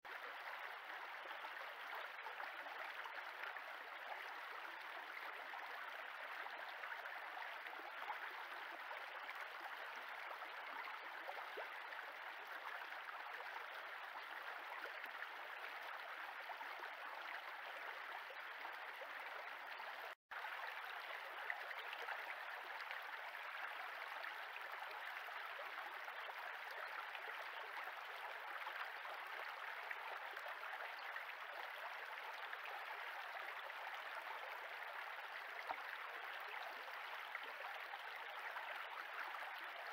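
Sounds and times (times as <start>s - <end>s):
stream flowing over stones: 0.1s - 39.9s.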